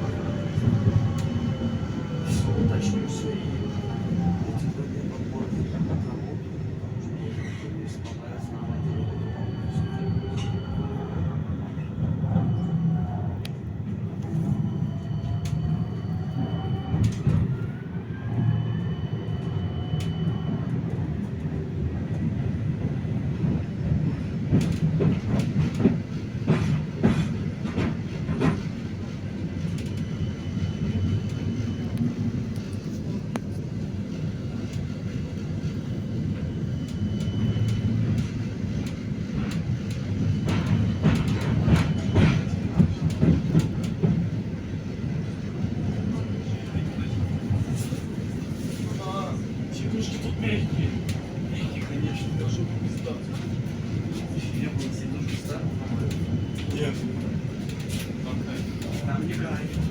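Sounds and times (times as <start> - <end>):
tram running gear rumble on rails: 0.0 - 59.9
tram traction drive whine: 0.0 - 59.9.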